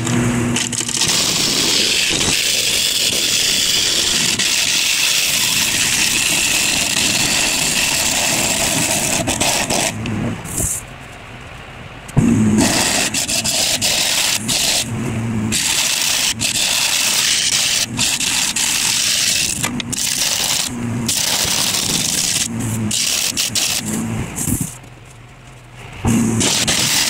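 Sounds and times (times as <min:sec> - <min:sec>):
lathe tool scraping wood: 0:00.0 - 0:10.8, 0:12.4 - 0:24.8, 0:26.1 - 0:27.0.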